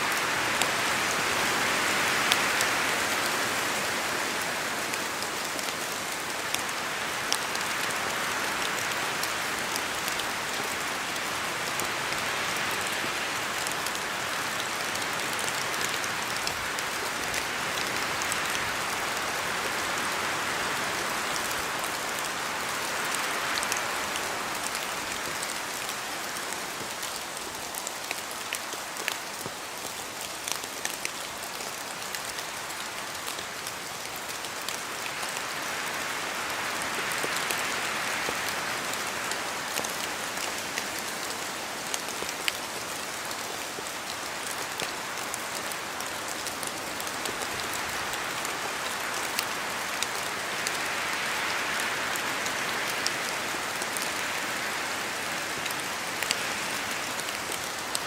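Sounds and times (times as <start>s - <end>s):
rain on foliage: 0.0s - 58.0s
wind: 0.0s - 58.0s.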